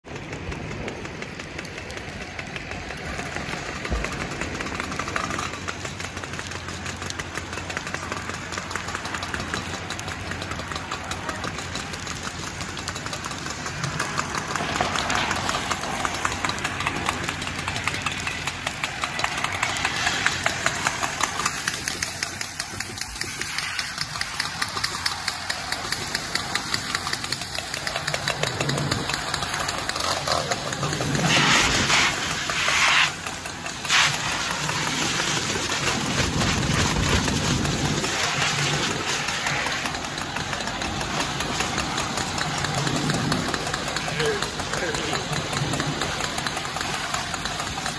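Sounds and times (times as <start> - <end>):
burning car crackling: 0.0 - 47.9
diesel engine running: 0.0 - 47.9.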